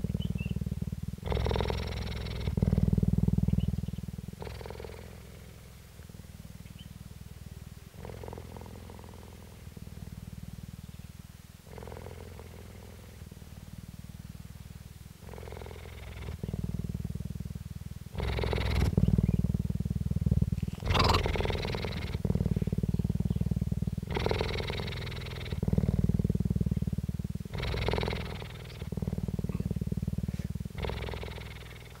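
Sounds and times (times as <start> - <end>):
cheetah purring: 0.0 - 32.0.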